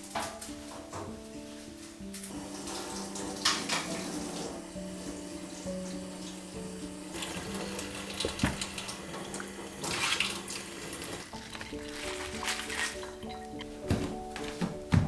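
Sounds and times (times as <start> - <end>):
soft background music: 0.0 - 15.0
water running and splashing: 2.3 - 14.5.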